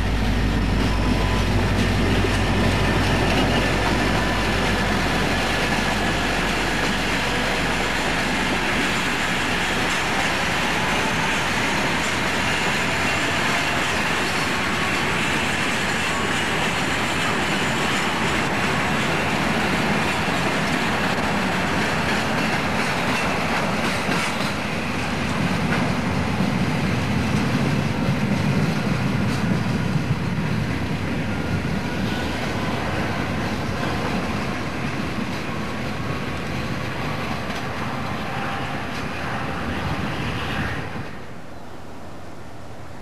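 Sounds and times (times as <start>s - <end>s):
freight train rolling past: 0.0s - 43.0s.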